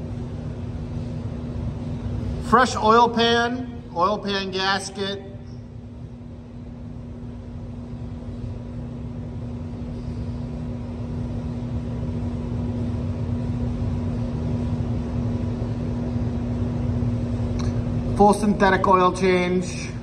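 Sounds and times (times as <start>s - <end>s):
mechanical hum with low rumble: 0.0s - 20.0s.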